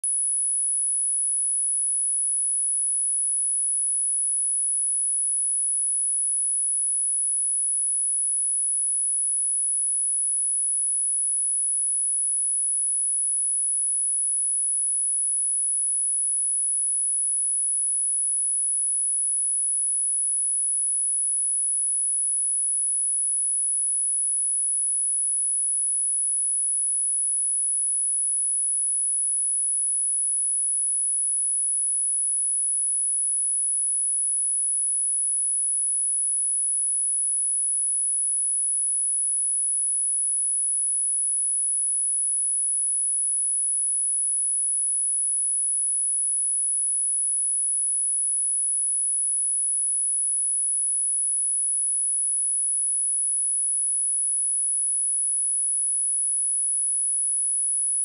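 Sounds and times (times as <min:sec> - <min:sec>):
high-pitched sine-wave test tone: 0:00.0 - 0:58.0.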